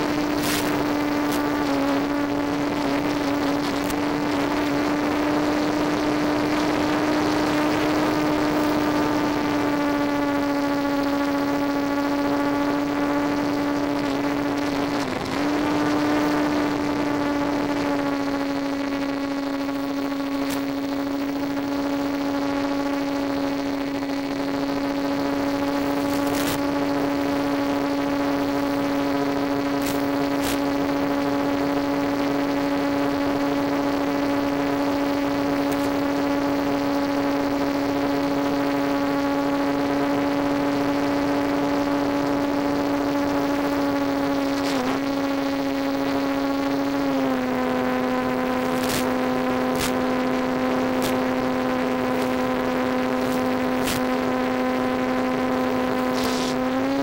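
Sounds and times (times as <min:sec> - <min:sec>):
electric propeller motor whine: 0:00.0 - 0:57.0.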